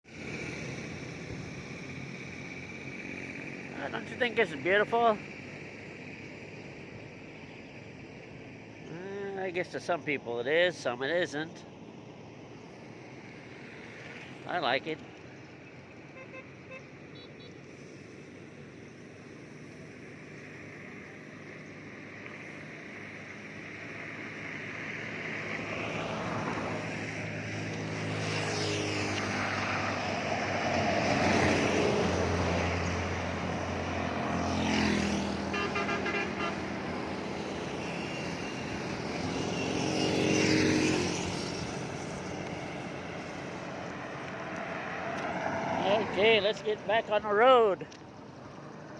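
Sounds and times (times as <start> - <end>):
vehicles passing on road: 0.0 - 48.9.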